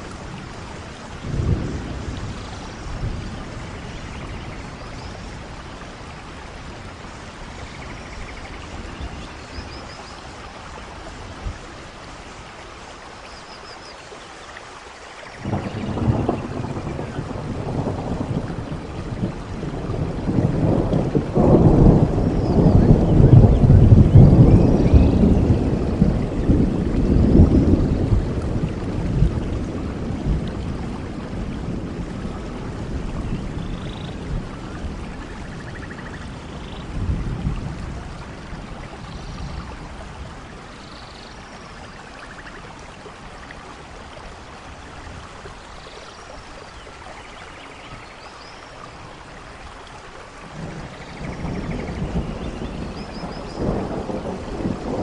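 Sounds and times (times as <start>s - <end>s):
low thunder rumble: 0.0s - 10.0s, 15.4s - 45.6s, 49.9s - 55.0s
steady rain falling: 0.0s - 55.0s.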